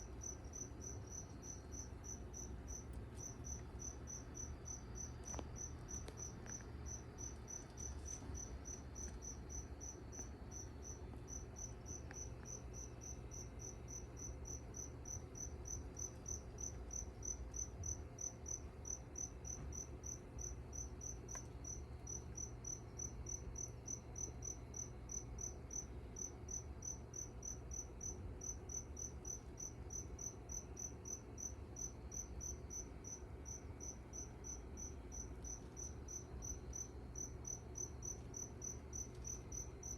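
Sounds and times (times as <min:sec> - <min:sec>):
cricket chirping: 0:00.0 - 0:39.9
faint low hum: 0:00.0 - 0:39.9.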